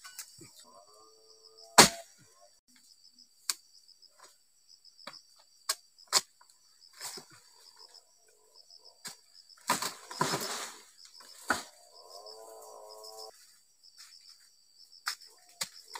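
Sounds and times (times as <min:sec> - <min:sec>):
insects chirring: 0:00.0 - 0:15.9.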